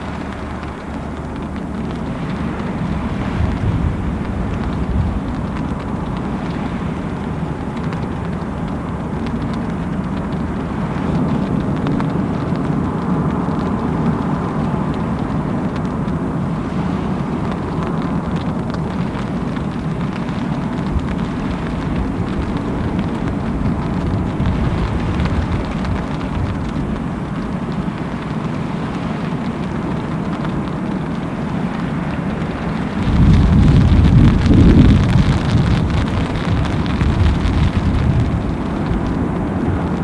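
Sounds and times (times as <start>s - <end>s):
constant low rumble: 0.0s - 40.0s
heavy rain falling: 0.0s - 40.0s.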